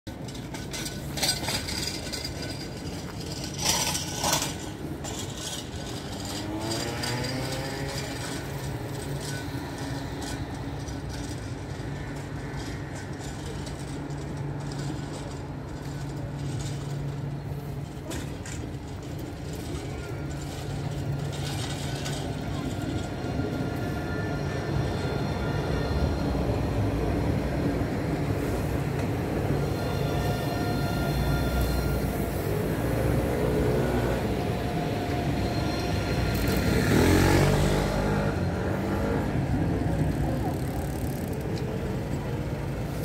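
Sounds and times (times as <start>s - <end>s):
electric tram motor whine: 4.0s - 43.0s.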